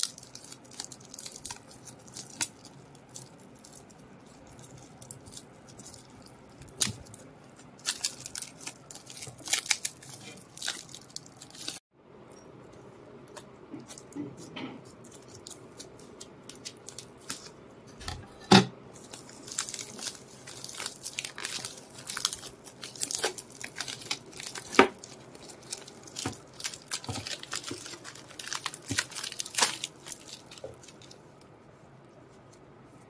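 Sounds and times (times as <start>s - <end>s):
plastic wrap crinkling: 0.0s - 11.8s, 13.3s - 17.7s, 18.9s - 31.5s.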